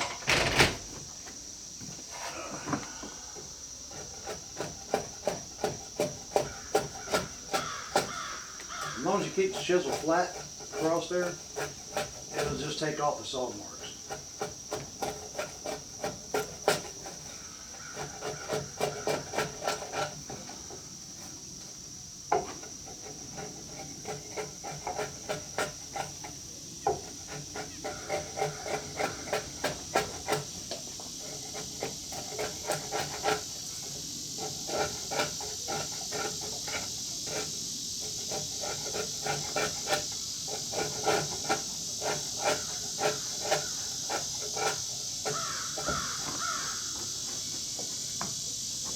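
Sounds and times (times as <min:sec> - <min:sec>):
chisel scraping wood: 0:03.4 - 0:47.9.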